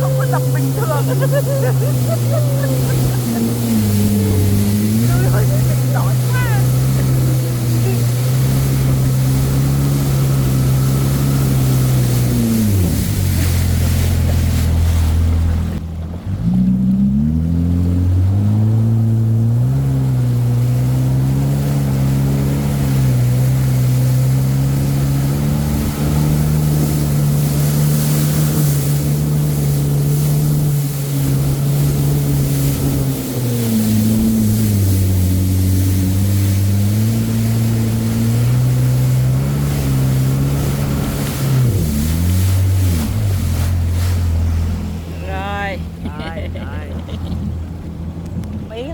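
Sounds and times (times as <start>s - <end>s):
jet ski engine running: 0.0s - 48.9s
rush of wind and water: 0.0s - 48.9s.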